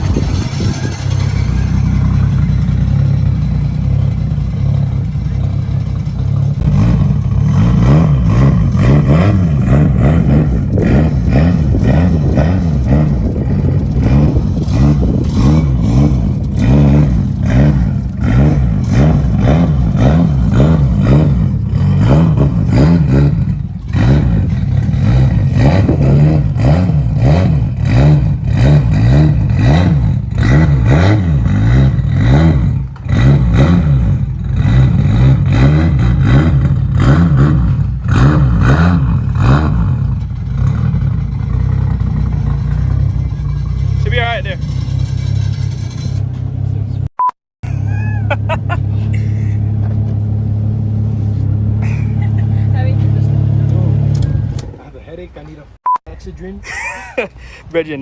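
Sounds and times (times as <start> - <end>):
car engine revving: 0.0 - 55.4.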